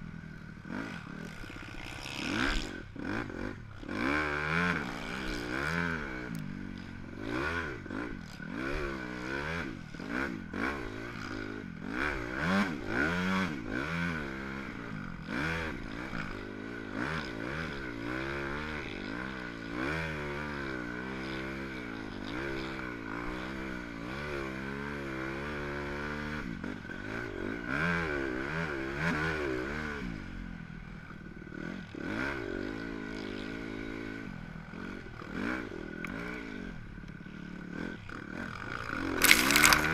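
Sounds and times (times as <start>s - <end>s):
dirt bike engine revving: 0.0s - 30.3s, 31.6s - 39.9s.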